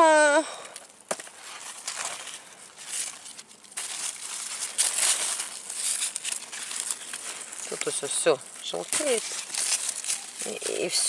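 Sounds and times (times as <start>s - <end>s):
leaves rustling and crinkling: 0.0s - 11.0s.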